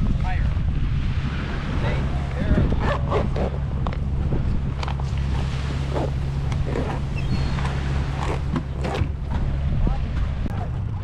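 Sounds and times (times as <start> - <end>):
low engine hum: 0.0 - 11.0
wind buffeting microphone: 0.0 - 11.0.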